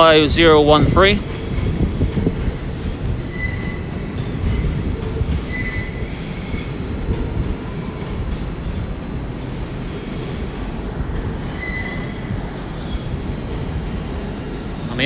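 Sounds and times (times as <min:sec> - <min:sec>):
train rumbling over rails: 0:00.0 - 0:15.0
train wheels squealing: 0:01.2 - 0:07.0, 0:07.6 - 0:15.0.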